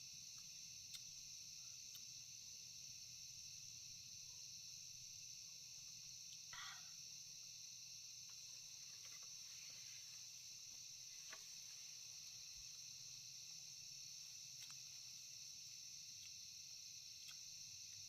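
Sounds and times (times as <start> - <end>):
insect chorus: 0.0 - 18.0.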